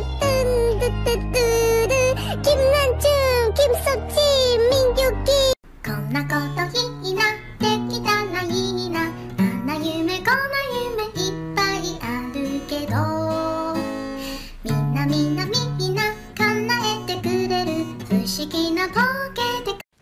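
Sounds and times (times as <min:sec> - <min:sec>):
song with guitar and high voice: 0:00.0 - 0:19.8.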